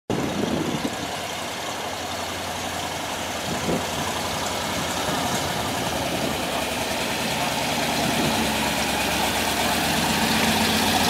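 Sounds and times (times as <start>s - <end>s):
truck engine running at low speed: 0.1s - 11.0s.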